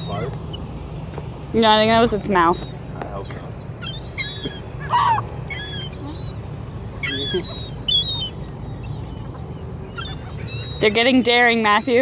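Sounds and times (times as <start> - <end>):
seagulls squawking: 1.8 - 12.0.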